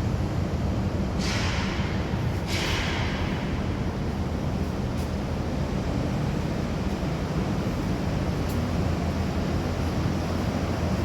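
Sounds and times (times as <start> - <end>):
air conditioning hum: 0.0 - 11.0.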